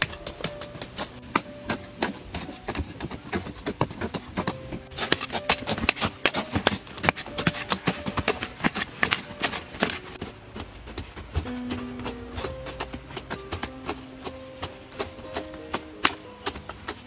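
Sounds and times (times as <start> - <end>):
digging tools chopping into soil: 0.0 - 17.0
loose earth scraping and falling: 0.0 - 17.0.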